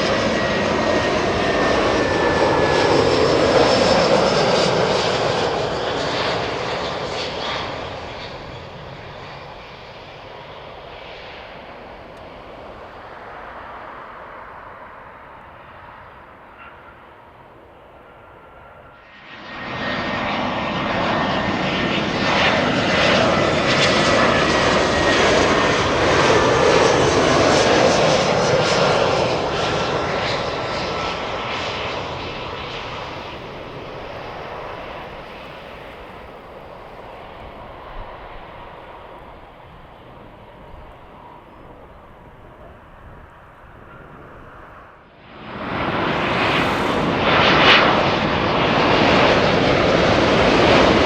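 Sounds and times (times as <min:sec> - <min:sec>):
jet aircraft passing by: 0:00.0 - 0:51.0.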